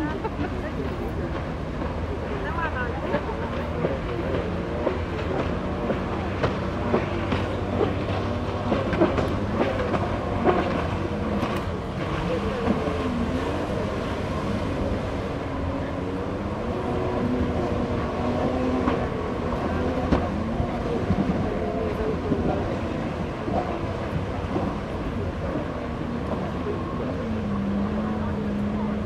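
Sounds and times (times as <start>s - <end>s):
jet ski engine running: 0.0s - 29.0s
rushing water noise: 0.0s - 29.0s.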